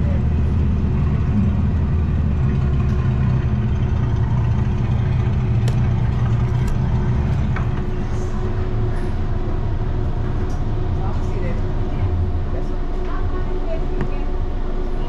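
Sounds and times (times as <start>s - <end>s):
constant hum: 0.0s - 15.0s
go-kart low rumble: 0.0s - 15.0s.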